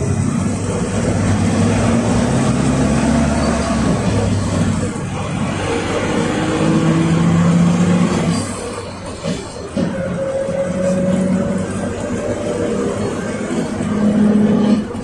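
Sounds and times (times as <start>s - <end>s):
bus engine from inside cabin: 0.0s - 15.0s.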